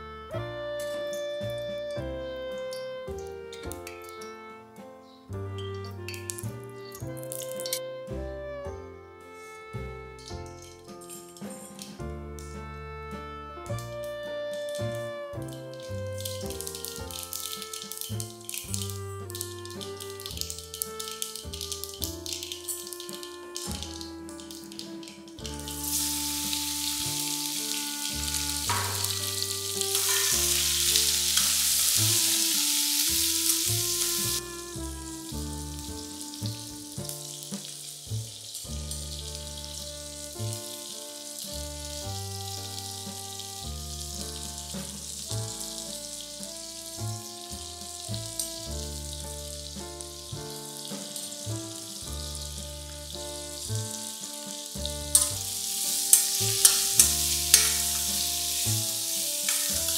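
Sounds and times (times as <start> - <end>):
background music with bass: 0.0 - 59.9
food sizzling in hot oil: 5.6 - 7.8, 10.2 - 12.6, 13.7 - 59.9.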